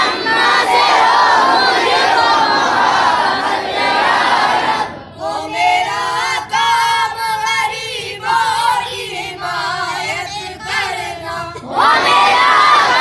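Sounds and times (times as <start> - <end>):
boys singing together: 0.0 - 13.0.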